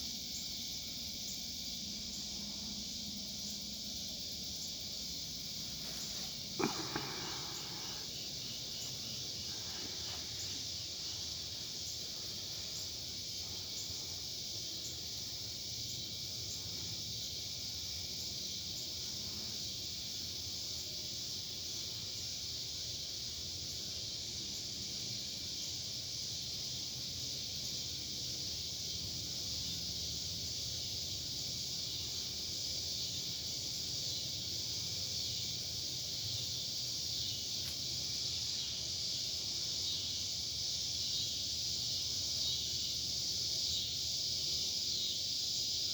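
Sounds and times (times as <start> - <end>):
insects buzzing: 0.0 - 45.9.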